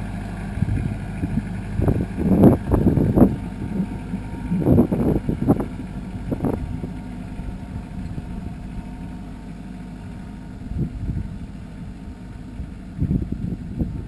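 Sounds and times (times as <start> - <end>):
tractor engine running: 0.0 - 14.0
wind buffeting microphone: 0.5 - 9.0, 10.5 - 14.0.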